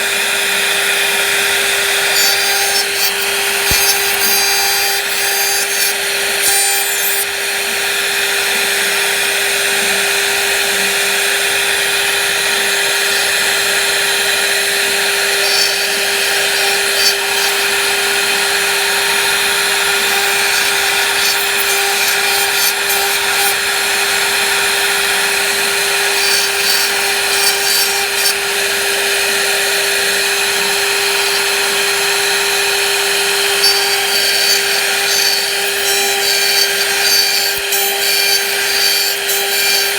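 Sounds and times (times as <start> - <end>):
router spindle whine: 0.0 - 39.9
wood being cut: 0.0 - 39.9.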